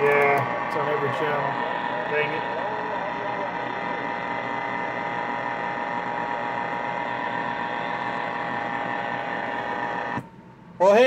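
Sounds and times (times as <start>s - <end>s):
radio interference hiss and tones: 0.0s - 10.2s.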